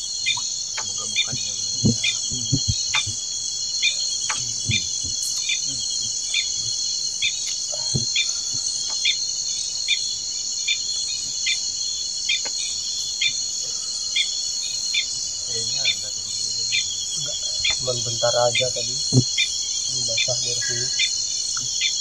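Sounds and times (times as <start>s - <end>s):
low repeating chirp: 0.0s - 10.1s, 14.2s - 22.0s
insects droning: 0.0s - 22.0s.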